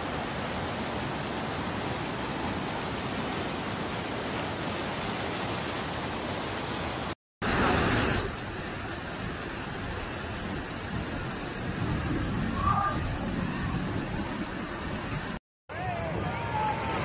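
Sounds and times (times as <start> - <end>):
flood river rushing: 0.0 - 17.0.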